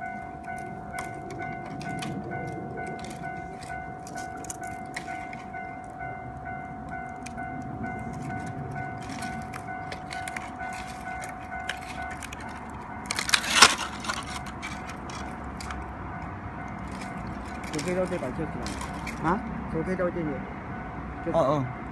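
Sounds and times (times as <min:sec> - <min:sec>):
bonfire crackling: 0:00.0 - 0:19.7.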